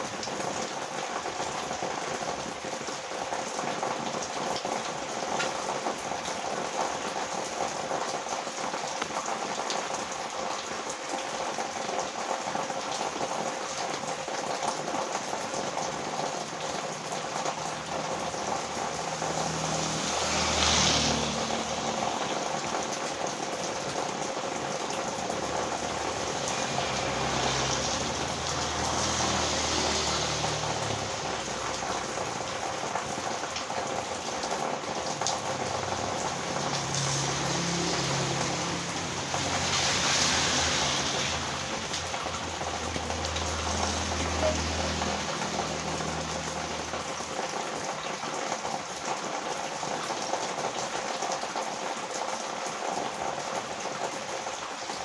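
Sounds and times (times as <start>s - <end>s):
heavy rain: 0.0s - 55.0s
vehicle passing on wet road: 0.0s - 55.0s.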